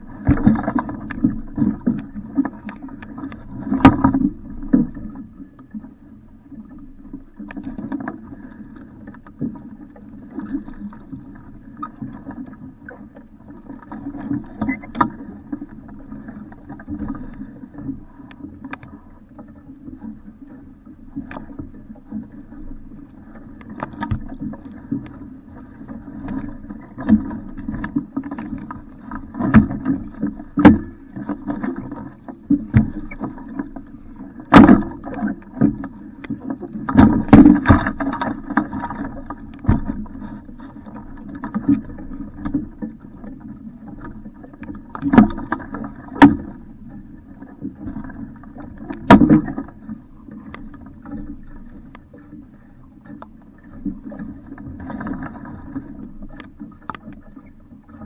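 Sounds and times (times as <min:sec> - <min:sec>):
water slapping against hull: 0:00.0 - 0:58.0.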